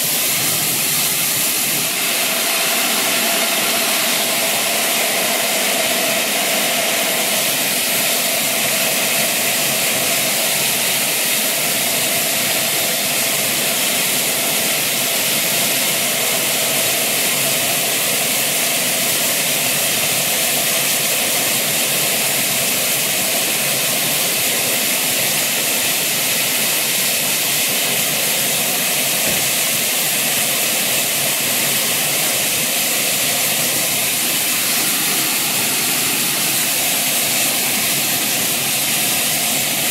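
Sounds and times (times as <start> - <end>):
steam hissing from locomotive: 0.0 - 39.9.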